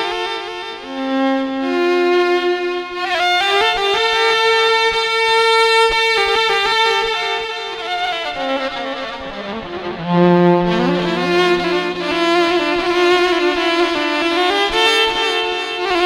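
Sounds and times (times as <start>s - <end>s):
violin playing slow melody: 0.0s - 16.0s.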